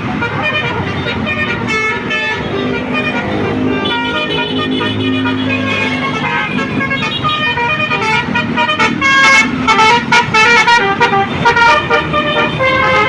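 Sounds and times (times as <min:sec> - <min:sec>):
bus multi-tone horn melody: 0:00.0 - 0:13.0.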